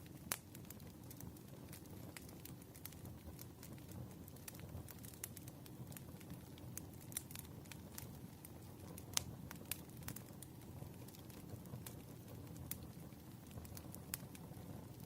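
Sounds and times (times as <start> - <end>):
firewood crackling and popping: 0.0 - 15.0
low rumble of fire: 0.0 - 15.0.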